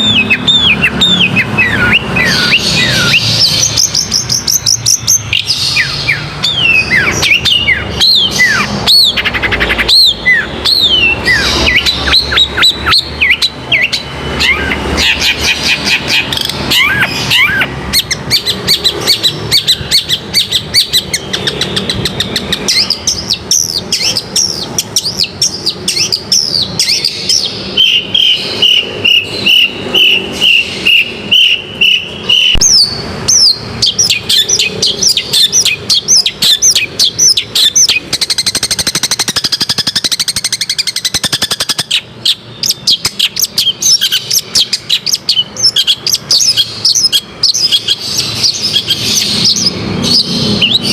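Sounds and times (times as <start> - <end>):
bird singing chattering song: 0.0 - 50.9.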